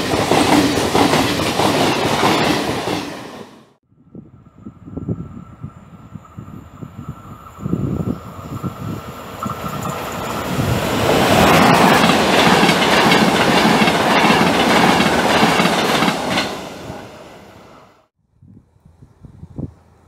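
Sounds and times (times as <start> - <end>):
train wheel and rail noise: 0.0 - 18.1.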